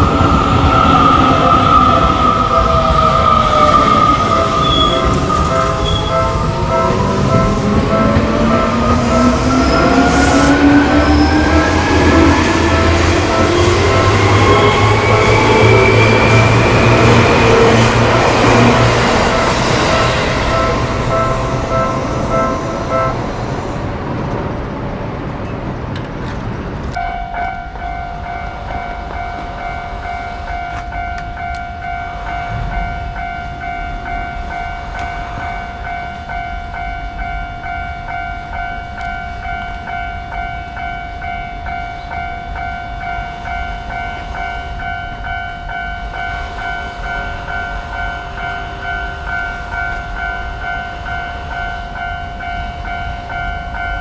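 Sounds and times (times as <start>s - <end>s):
level crossing bell clanging: 0.0s - 23.6s, 26.9s - 54.0s
train rumbling: 0.0s - 54.0s.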